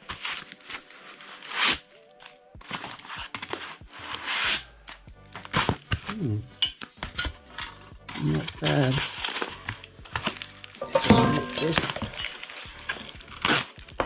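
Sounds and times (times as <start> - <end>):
packaging rustling and tearing: 0.0 - 6.3, 8.1 - 10.8, 11.5 - 14.0
background music: 0.0 - 14.0.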